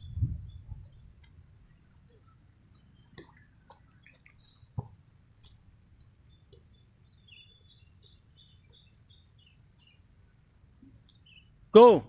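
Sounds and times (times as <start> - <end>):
bird chirping: 0.0 - 11.7.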